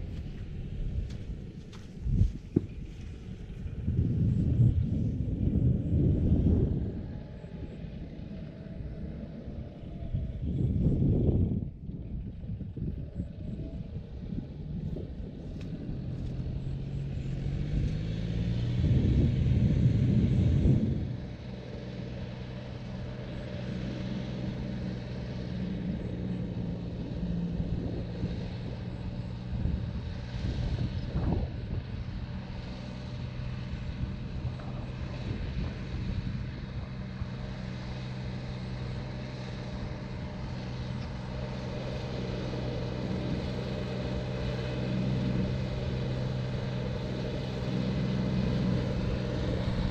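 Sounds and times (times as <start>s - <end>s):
loud low rumble: 0.0s - 23.7s, 24.4s - 49.9s
distant tractor diesel engine: 0.0s - 49.9s.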